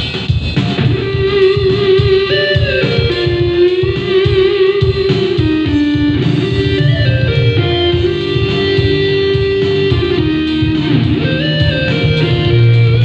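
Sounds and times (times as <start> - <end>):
backing beat with bass: 0.0 - 13.0
electronic keyboard lead melody: 0.8 - 13.0.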